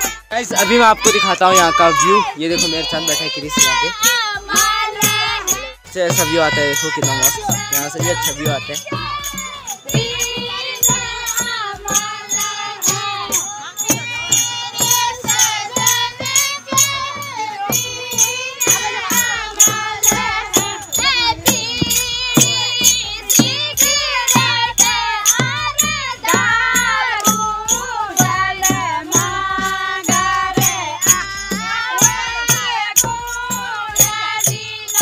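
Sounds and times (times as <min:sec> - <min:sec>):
jingling rattle: 0:00.0 - 0:35.0
percussion beat: 0:00.0 - 0:35.0
person singing folk song: 0:00.0 - 0:35.0.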